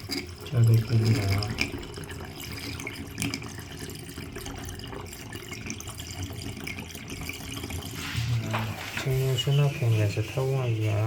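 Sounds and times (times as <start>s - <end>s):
water running into bathtub: 0.0s - 11.0s.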